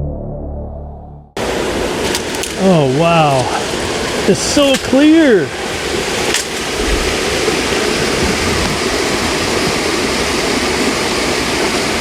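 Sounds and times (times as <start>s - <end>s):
water pouring over waterfall: 1.5s - 12.0s.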